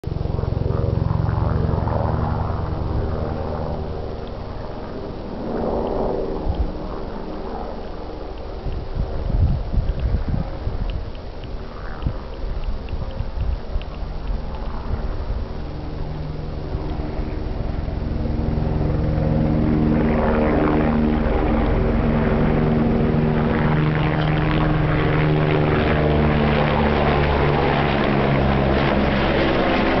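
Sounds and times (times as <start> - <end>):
helicopter engine tone: 0.0 - 30.0
helicopter rotor blades thudding: 0.1 - 30.0.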